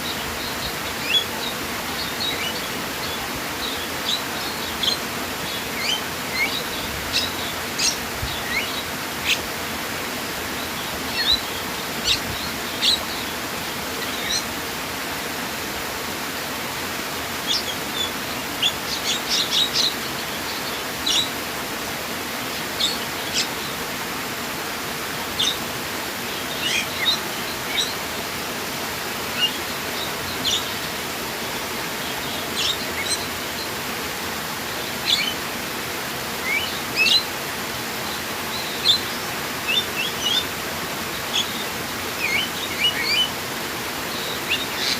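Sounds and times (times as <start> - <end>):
birds chirping: 0.0 - 15.6, 16.8 - 44.9
running water: 0.0 - 44.9.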